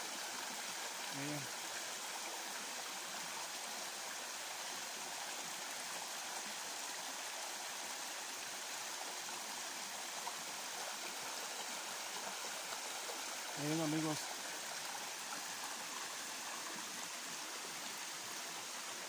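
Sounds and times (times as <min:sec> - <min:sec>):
water running over rocks: 0:00.0 - 0:19.0.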